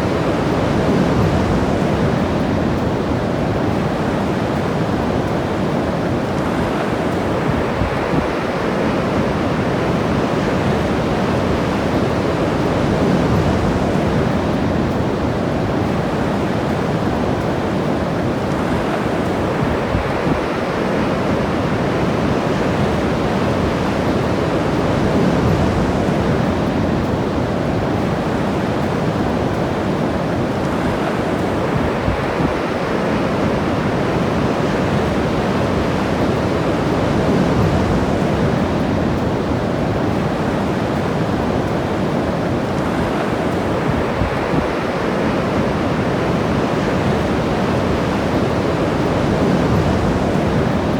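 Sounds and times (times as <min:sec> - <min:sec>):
ocean waves breaking: 0:00.0 - 0:50.9.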